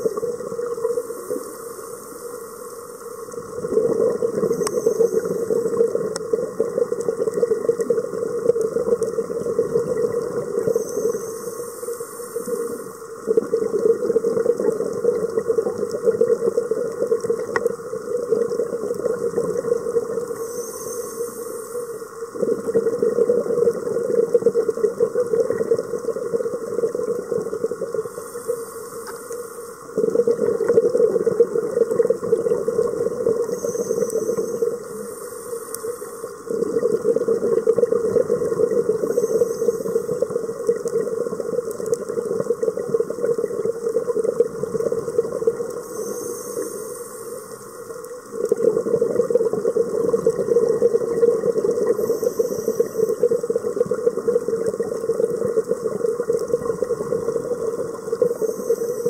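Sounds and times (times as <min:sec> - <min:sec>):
exhaled bubbles underwater: 0:00.0 - 0:59.0.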